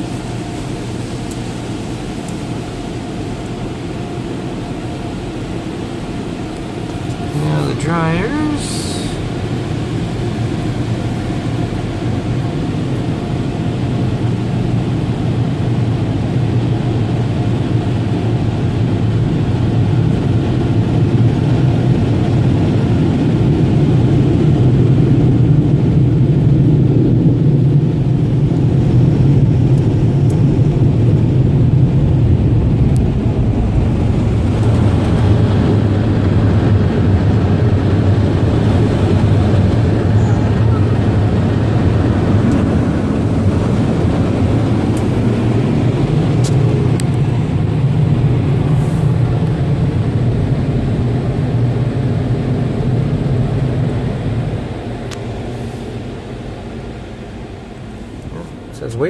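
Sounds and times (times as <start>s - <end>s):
car wash air blowers: 0.0s - 59.0s.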